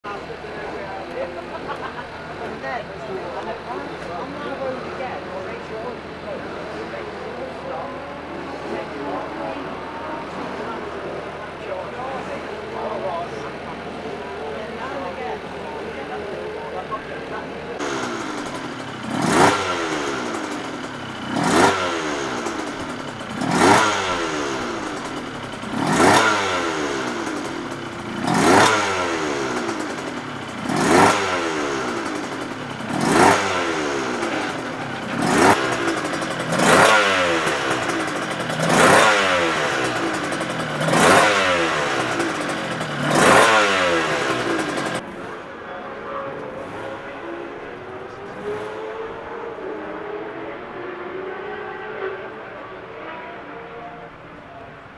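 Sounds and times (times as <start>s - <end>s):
two-stroke motorcycle revving: 0.1s - 54.1s.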